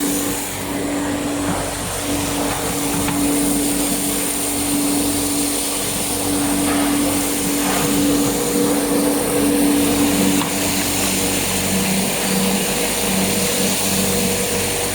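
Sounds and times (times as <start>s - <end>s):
agitated water rushing: 0.0s - 14.9s
motor and blower hum: 0.0s - 14.9s.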